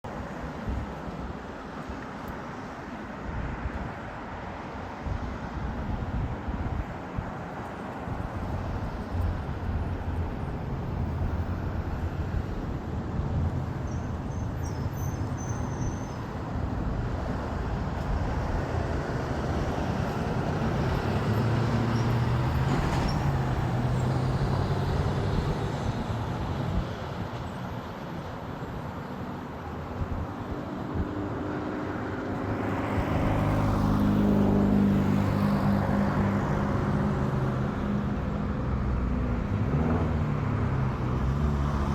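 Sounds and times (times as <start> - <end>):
road traffic rumble: 0.0 - 41.9
passing vehicle engines: 0.1 - 41.9.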